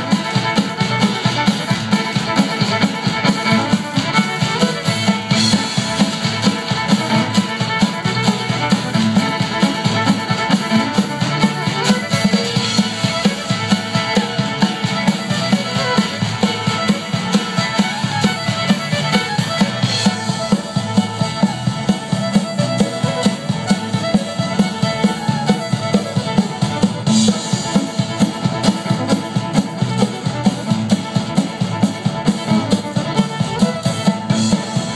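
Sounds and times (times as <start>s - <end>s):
drum kit beat: 0.0s - 34.9s
fiddle dance music: 0.0s - 34.9s.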